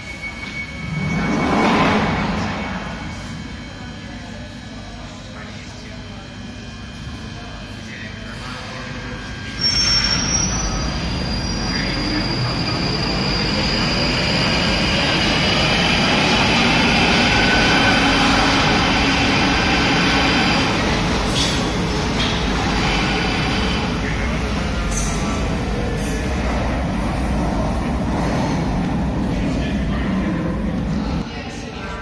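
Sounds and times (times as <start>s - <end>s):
high squeal of train: 0.0s - 32.0s
train running noise: 0.0s - 32.0s.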